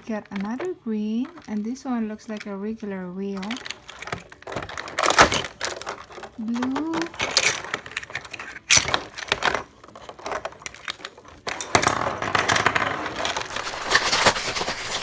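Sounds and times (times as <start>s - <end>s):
plastic toy parts clicking: 0.0s - 12.7s
rustling: 0.3s - 12.0s, 13.0s - 15.0s.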